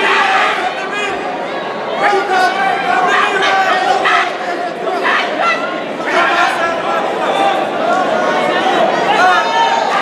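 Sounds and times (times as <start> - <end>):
crowd shouting: 0.0 - 10.0.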